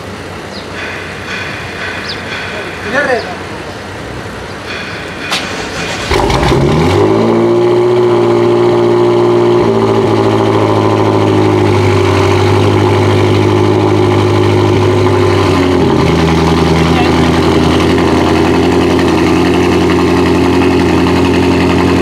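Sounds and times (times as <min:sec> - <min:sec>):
car engine starting and idling: 0:04.0 - 0:22.0.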